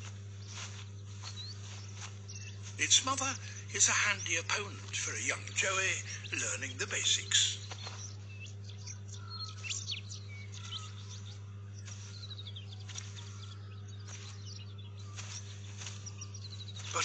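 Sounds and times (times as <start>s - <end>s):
birds chirping and calling: 0.0s - 17.0s
steady low hum: 0.0s - 17.0s.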